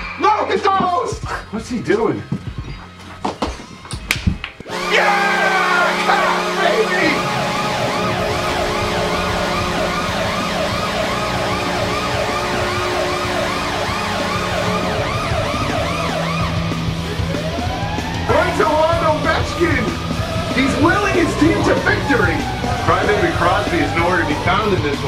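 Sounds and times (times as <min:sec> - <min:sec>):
wailing siren: 0:04.7 - 0:25.0.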